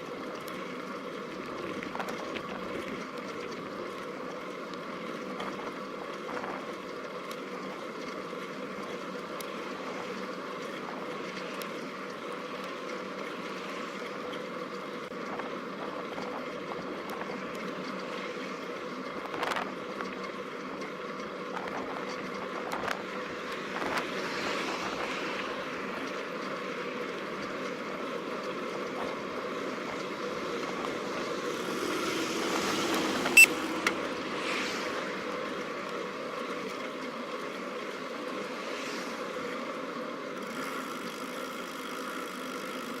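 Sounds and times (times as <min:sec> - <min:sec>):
bicycle tyre noise: 0:00.0 - 0:43.0.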